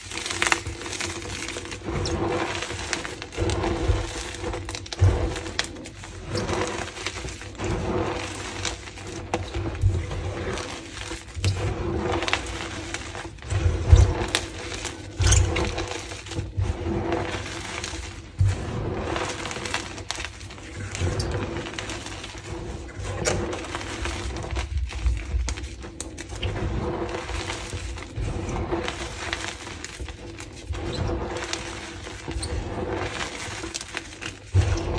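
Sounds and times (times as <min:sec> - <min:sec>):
chalk crunching and crackling: 0:00.0 - 0:34.9.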